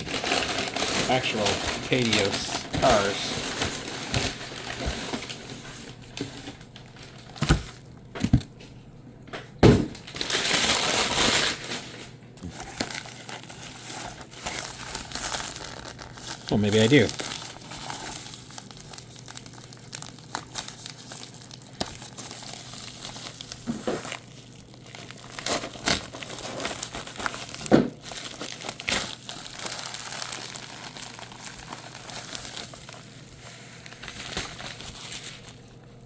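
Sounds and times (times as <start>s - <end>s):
packing material crinkling: 0.0s - 8.5s, 9.9s - 36.0s.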